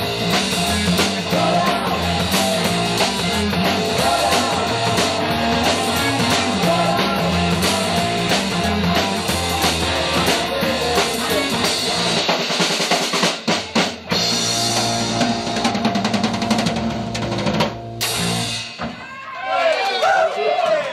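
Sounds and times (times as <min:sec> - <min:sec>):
fast drum fill: 0:00.0 - 0:19.0
loud rock music: 0:00.0 - 0:19.1.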